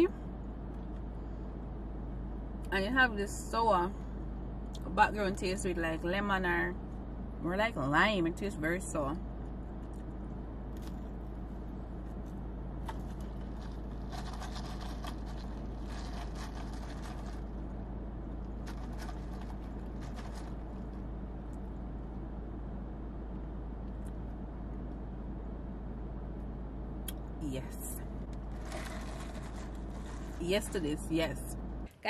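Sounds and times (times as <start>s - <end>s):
low hum inside car: 0.0s - 32.0s.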